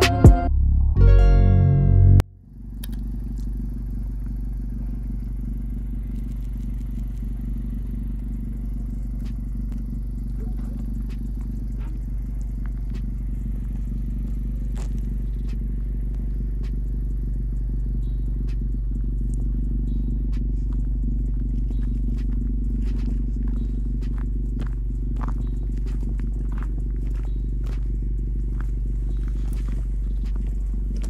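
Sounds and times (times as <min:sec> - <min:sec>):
engine idling: 0:02.1 - 0:31.0.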